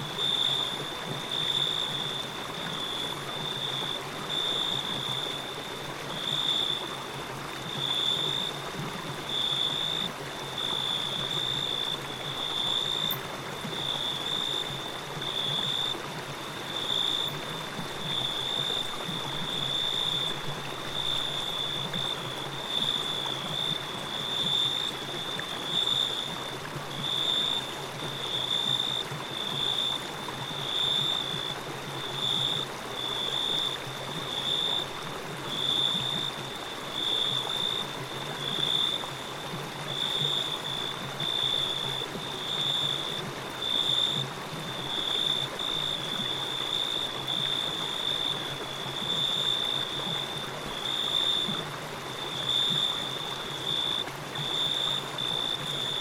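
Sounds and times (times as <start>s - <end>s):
pulsing insect chorus: 0.0s - 6.8s, 7.6s - 8.6s, 9.3s - 16.1s, 16.7s - 56.0s
flowing water: 0.0s - 56.0s.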